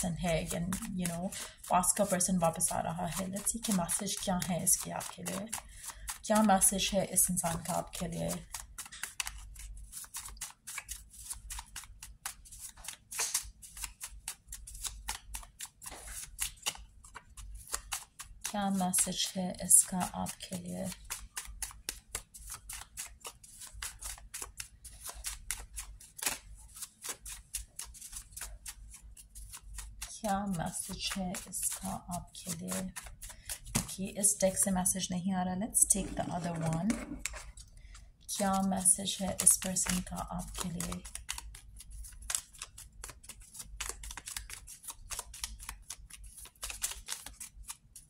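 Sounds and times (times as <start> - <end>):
deck of cards shuffling: 0.0 - 48.0.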